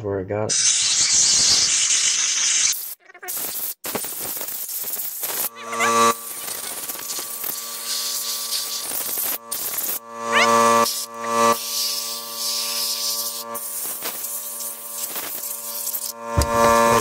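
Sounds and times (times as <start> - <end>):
compressed air blow gun hissing: 0.5 - 10.0, 10.8 - 16.5
loud buzzing tone: 2.8 - 17.0.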